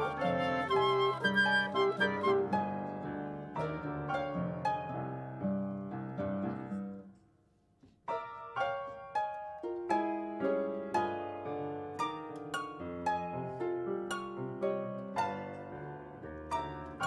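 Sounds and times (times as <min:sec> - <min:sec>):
harp: 0:00.0 - 0:05.2, 0:08.2 - 0:17.0
classical guitar: 0:00.0 - 0:07.2, 0:07.9 - 0:17.0
piano: 0:00.0 - 0:17.0.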